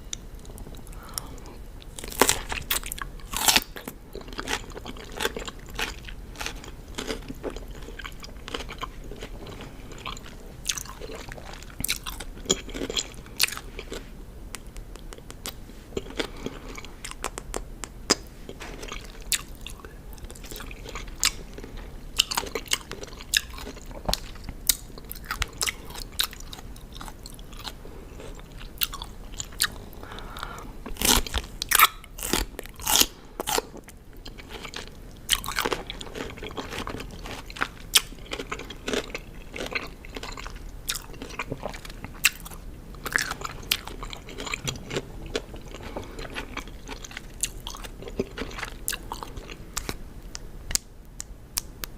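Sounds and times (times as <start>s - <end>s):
chewing crunchy cucumber: 0.0s - 50.9s.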